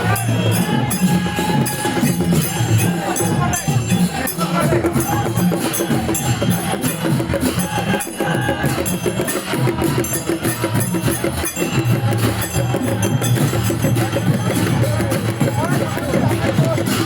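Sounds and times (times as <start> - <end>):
clashing cymbals: 0.0 - 17.0
drums: 0.0 - 17.0.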